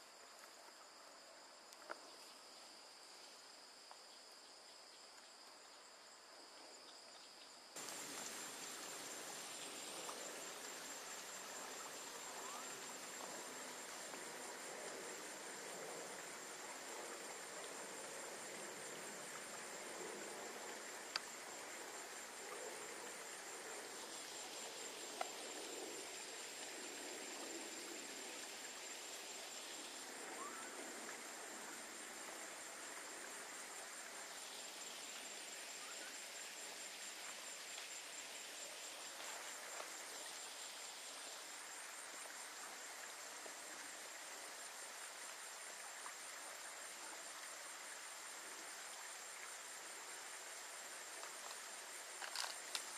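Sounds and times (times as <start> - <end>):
soft background hiss: 0.0 - 52.9.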